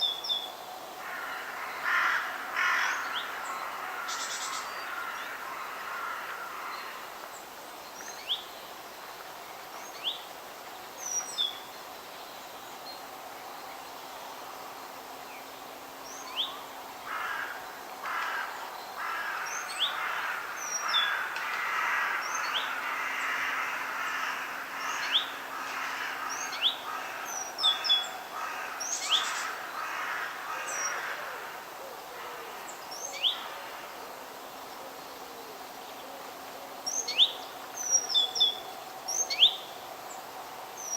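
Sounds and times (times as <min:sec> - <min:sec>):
faint background hiss: 0:00.0 - 0:40.9.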